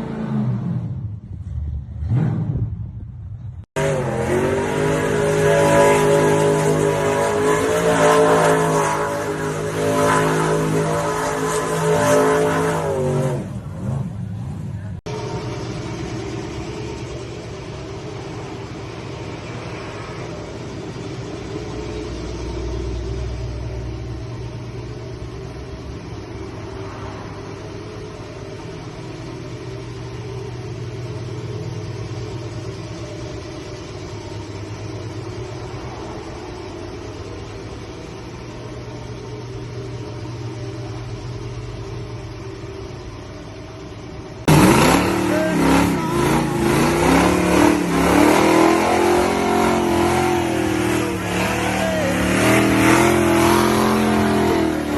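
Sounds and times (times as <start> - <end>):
loud engine revving: 0.0 - 41.2, 44.3 - 54.9
car engine idling: 0.0 - 54.9.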